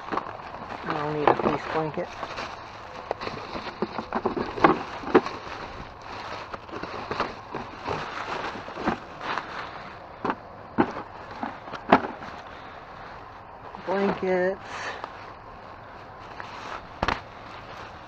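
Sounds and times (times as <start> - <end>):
plastic and fabric rustling: 0.0 - 18.0
plastic bag crackles: 0.0 - 18.0.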